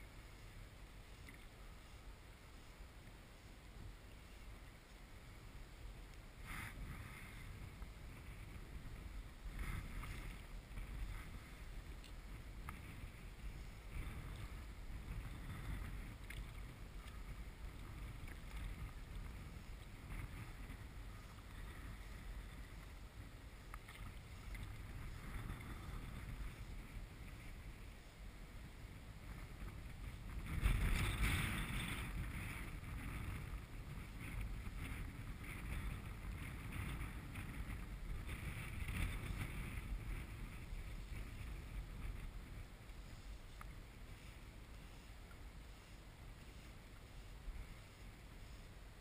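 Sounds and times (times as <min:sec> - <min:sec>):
low wind rumble on microphone: 0:00.0 - 0:49.0.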